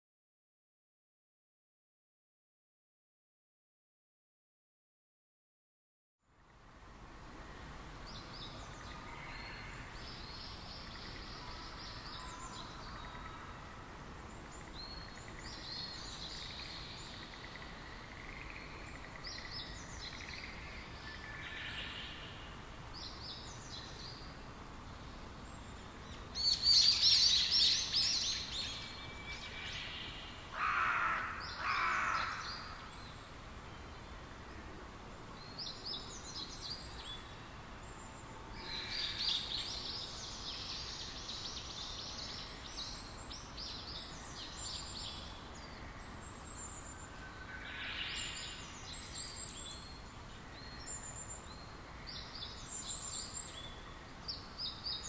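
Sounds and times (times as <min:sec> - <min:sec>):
faint steady hiss: 0:06.2 - 0:55.0.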